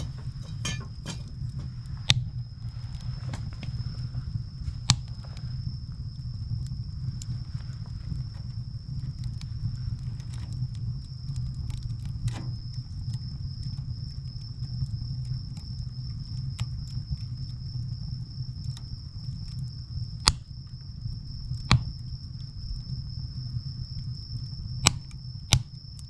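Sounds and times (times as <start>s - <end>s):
loud pops of burning firewood: 0.0s - 26.0s
wood fire crackling: 0.0s - 26.0s.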